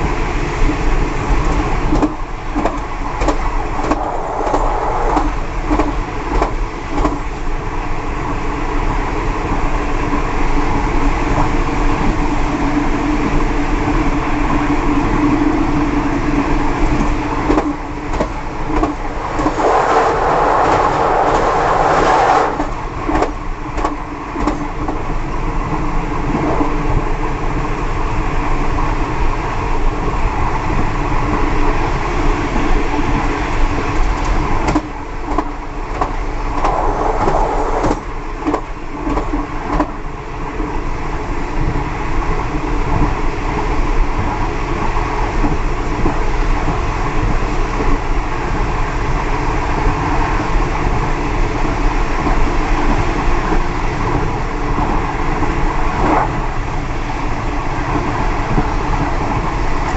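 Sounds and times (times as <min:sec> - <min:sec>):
train wheels running on rails: 0:00.0 - 0:59.9.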